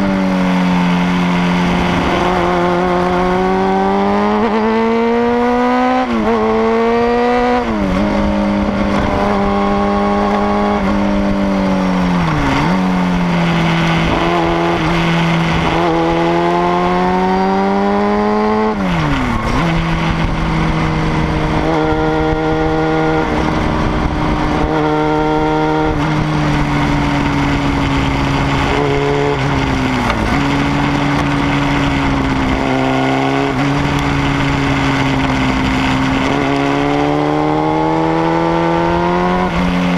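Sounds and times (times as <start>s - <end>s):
motorcycle engine revving: 0.0s - 39.9s
wind rushing: 6.1s - 39.9s.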